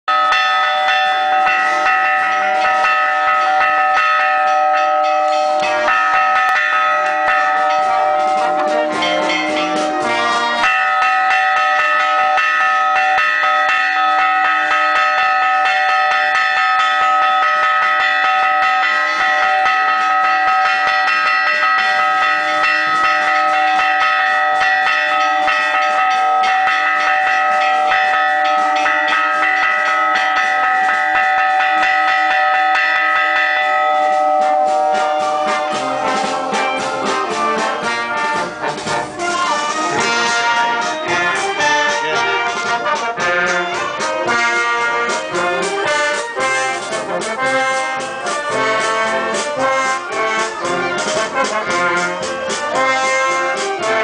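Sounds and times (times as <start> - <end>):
church bell ringing: 0.0 - 54.0.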